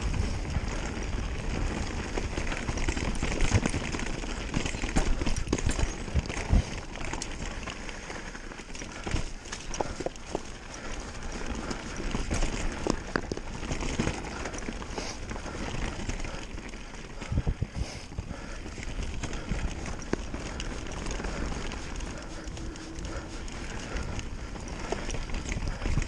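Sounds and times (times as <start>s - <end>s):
bike frame and chain clattering: 0.0s - 26.0s.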